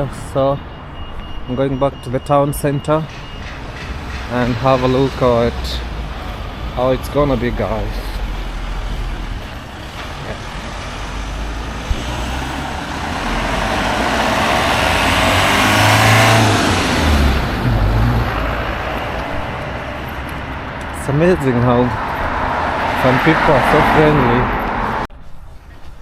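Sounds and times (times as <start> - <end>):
road vehicle passing: 2.9 - 25.1.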